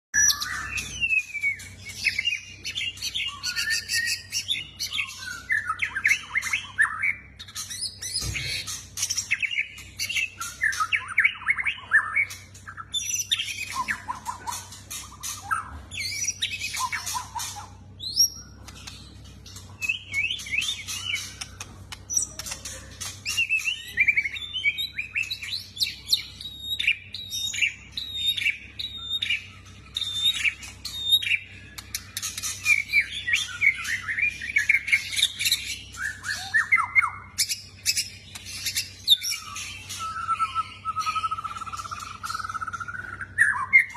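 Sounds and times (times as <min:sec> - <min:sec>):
bird singing trills and whistles: 0:00.2 - 0:43.9.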